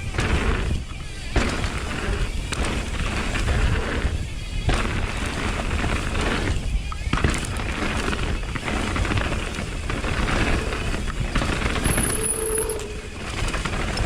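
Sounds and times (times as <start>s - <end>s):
bike tyres rumbling on dirt: 0.0s - 14.0s
rattling bike parts: 0.0s - 14.0s.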